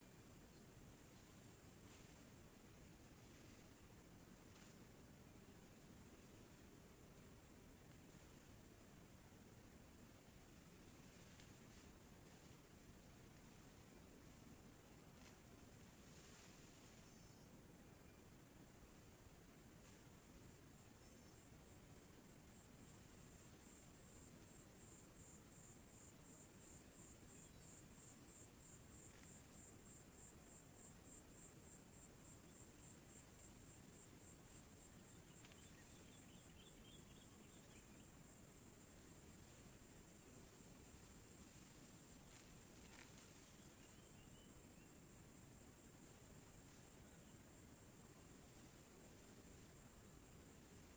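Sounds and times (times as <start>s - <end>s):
crickets trilling: 0.1s - 50.9s.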